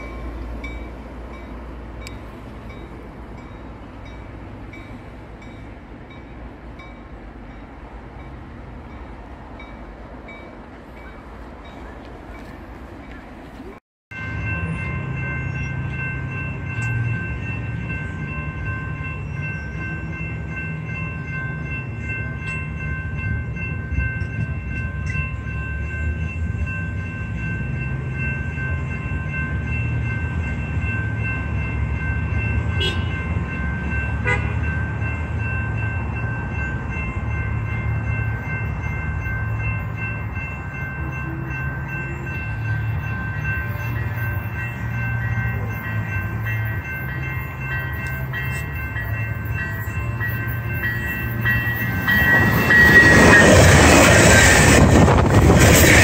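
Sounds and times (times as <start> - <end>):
crossing warning bell ringing: 0.0 - 56.0.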